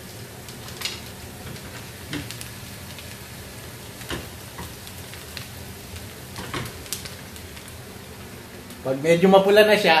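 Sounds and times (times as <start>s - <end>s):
oil popping and crackling: 0.0s - 9.0s
garlic sizzling in oil: 0.0s - 10.0s.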